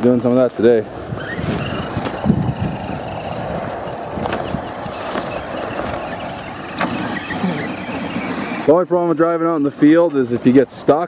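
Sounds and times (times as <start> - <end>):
electric motors whirring: 0.9 - 10.5.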